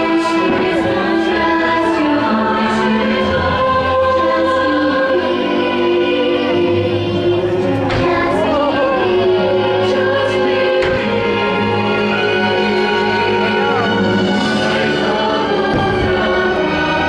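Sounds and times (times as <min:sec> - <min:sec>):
choir singing sustained notes: 0:00.0 - 0:17.0
orchestral music: 0:00.0 - 0:17.0.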